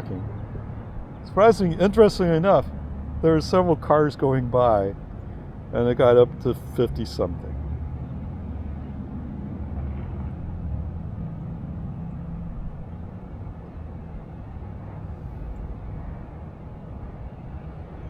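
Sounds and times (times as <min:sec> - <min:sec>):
distant street traffic rumble: 0:00.0 - 0:18.0.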